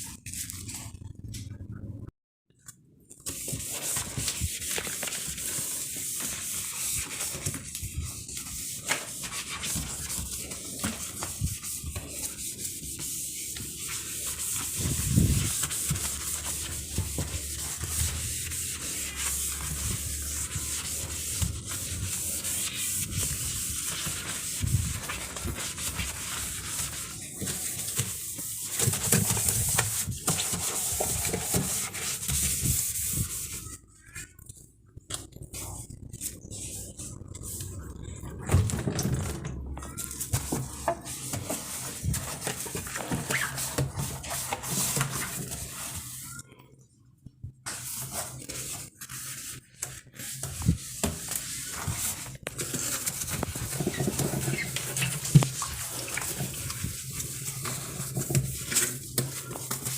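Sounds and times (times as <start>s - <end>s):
sponge scrubbing a surface: 3.3s - 34.1s, 35.5s - 38.3s, 39.8s - 46.4s, 47.7s - 59.9s.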